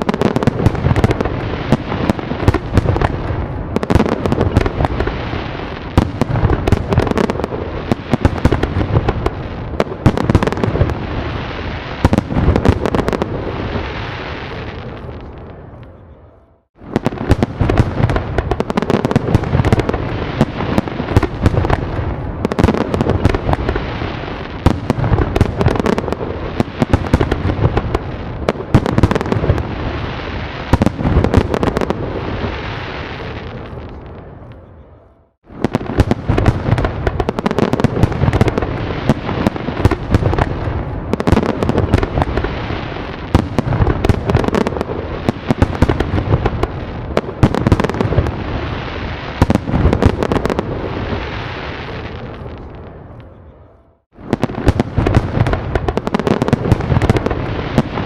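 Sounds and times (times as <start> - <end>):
fireworks bangs and pops: 0.0 - 15.6, 16.6 - 34.5, 35.3 - 53.3, 54.0 - 58.0
fireworks rumble and crackle: 0.0 - 58.0.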